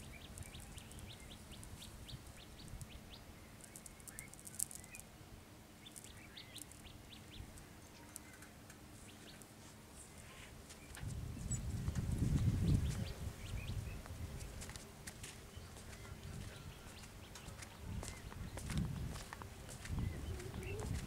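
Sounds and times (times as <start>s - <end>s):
small birds chirping: 0.0s - 5.1s, 5.7s - 21.0s
faint low hum: 0.0s - 21.0s.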